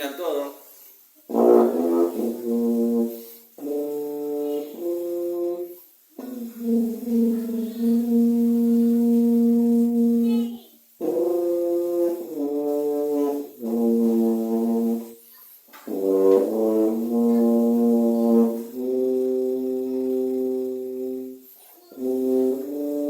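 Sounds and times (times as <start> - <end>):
tuba playing long notes: 1.2 - 15.3, 15.9 - 23.0.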